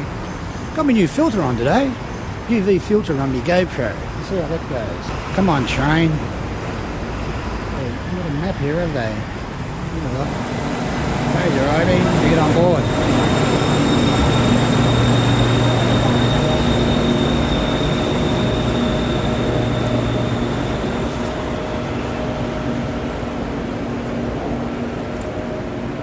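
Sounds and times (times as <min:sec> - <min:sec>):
electric train motor hum and whine: 0:00.0 - 0:26.0.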